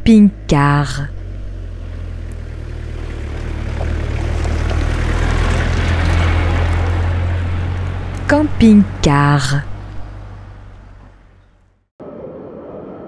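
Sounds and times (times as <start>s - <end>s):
motorhome engine hum: 0.0s - 11.9s
road noise: 0.0s - 13.0s.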